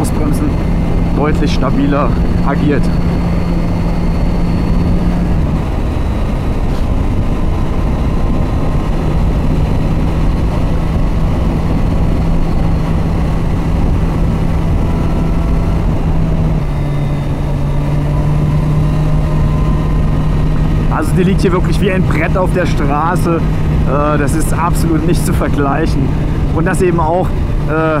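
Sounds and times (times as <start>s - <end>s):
heavy wind rumble: 0.0s - 28.0s
motorcycle engine running: 0.0s - 28.0s.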